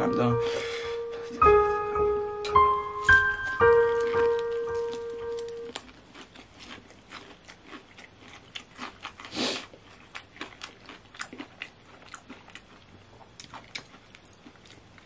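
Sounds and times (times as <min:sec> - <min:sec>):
person chewing crunchy food: 0:02.6 - 0:15.0.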